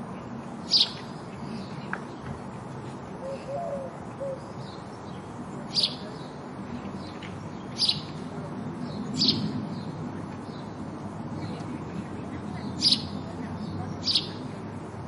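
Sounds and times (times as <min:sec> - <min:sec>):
low background noise: 0:00.0 - 0:15.0
sparrows chirping: 0:00.2 - 0:02.4, 0:03.2 - 0:15.0.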